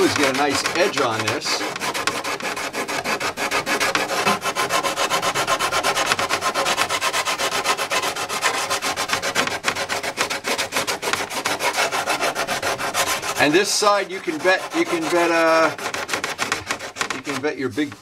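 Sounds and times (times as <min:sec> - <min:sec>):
sandpaper rubbing: 0:00.0 - 0:18.0.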